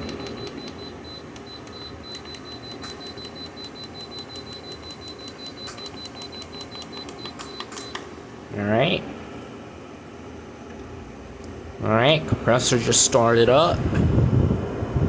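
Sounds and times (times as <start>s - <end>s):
air conditioner fan running: 0.0s - 15.0s.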